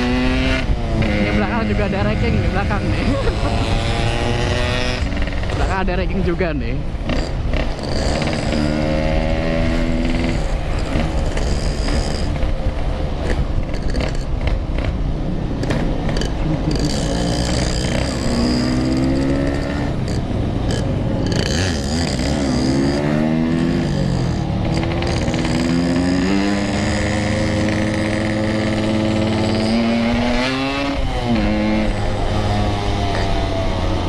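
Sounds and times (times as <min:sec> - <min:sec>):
motorcycle engines revving: 0:00.0 - 0:34.0
wind and road noise: 0:00.0 - 0:34.0.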